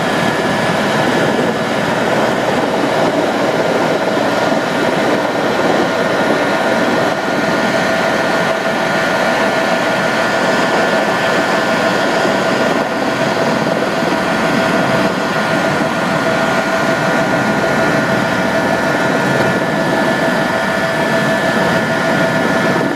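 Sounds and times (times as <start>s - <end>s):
aircraft engine drone: 0.0s - 22.9s.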